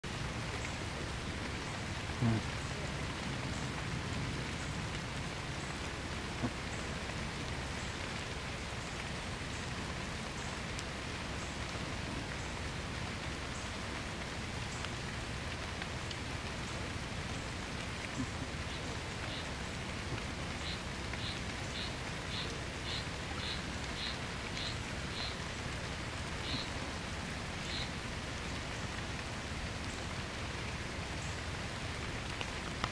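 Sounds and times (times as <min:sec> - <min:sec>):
light rain on leaves: 0:00.0 - 0:32.9.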